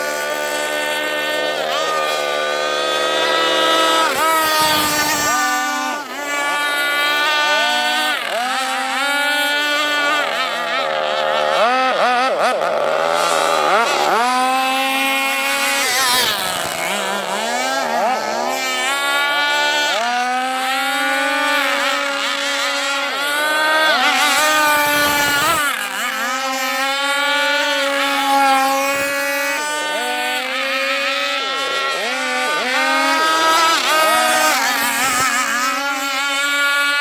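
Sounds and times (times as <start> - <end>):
model boat engine at high revs: 0.0 - 37.0.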